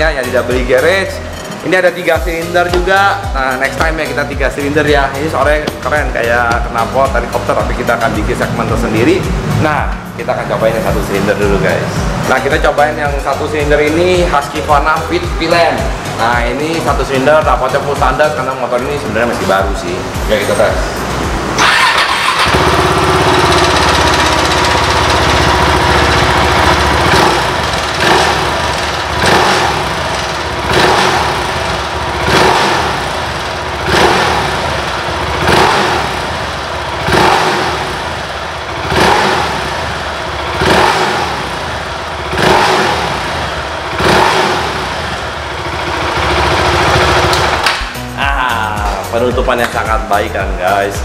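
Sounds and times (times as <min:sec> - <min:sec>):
motorcycle engine idling and revving: 0:00.0 - 0:51.0.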